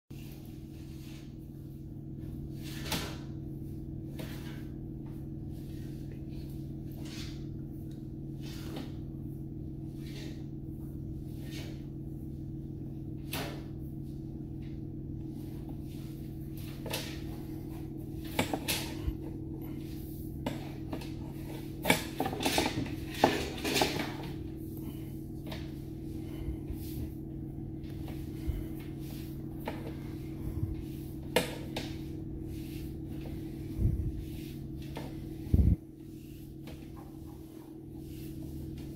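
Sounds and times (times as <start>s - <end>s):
low machine hum: 0.1s - 38.9s.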